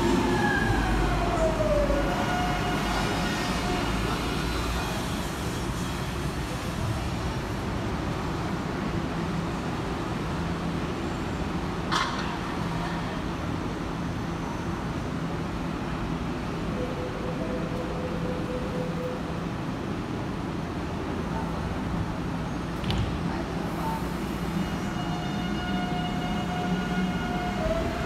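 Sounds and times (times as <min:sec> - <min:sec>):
electric train humming: 0:00.0 - 0:10.9, 0:14.8 - 0:22.5, 0:23.5 - 0:28.0.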